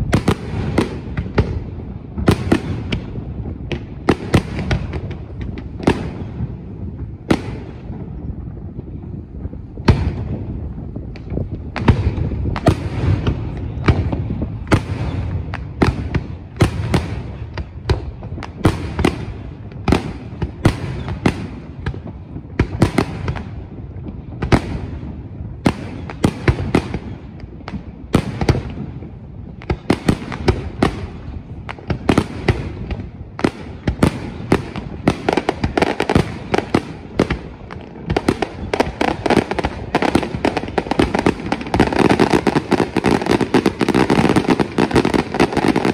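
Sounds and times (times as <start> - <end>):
firework crackling: 0.0 - 45.9.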